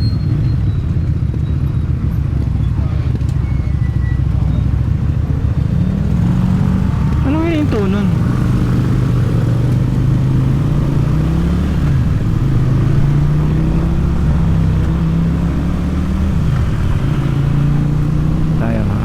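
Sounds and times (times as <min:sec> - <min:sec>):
motorcycle engine running: 0:00.1 - 0:19.0.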